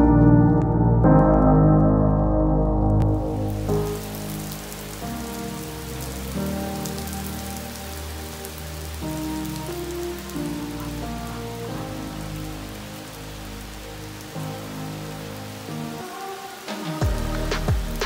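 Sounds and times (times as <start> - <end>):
steady rain falling: 0.0 - 2.3, 2.9 - 18.0
music of slow held chords: 0.0 - 18.0.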